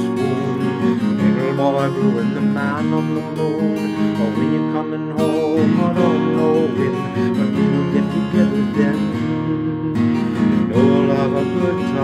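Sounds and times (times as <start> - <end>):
acoustic guitar strumming: 0.0 - 12.0
man singing: 0.0 - 12.0.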